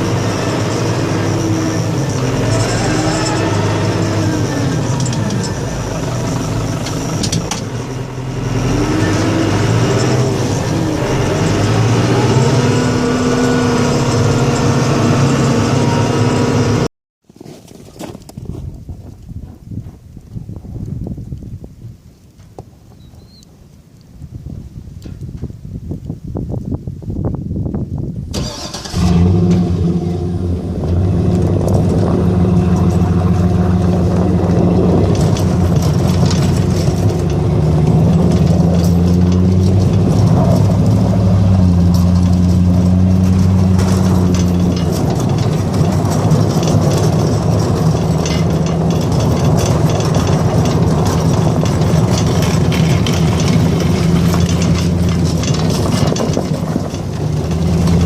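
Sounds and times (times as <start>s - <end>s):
snow plow engine running: 0.0s - 16.9s, 28.3s - 58.0s.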